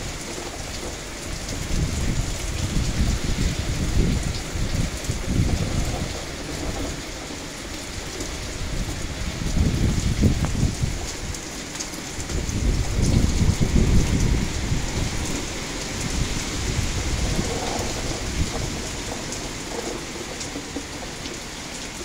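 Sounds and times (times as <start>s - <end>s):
heavy rain pouring: 0.0s - 22.0s
wind gusts: 0.0s - 22.0s.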